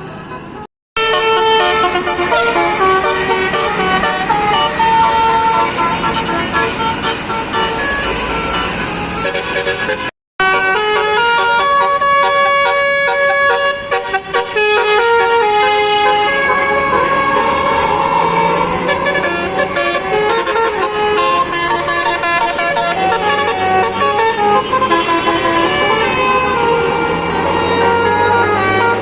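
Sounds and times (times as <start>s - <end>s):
bus air horn playing a tune: 0.1s - 29.0s.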